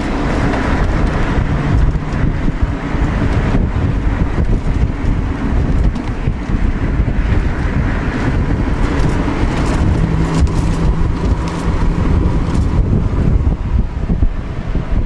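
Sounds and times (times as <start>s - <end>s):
knocks and rattles: 0.0s - 13.8s
truck engine driving: 0.0s - 15.0s
wind noise on microphone: 0.0s - 15.0s.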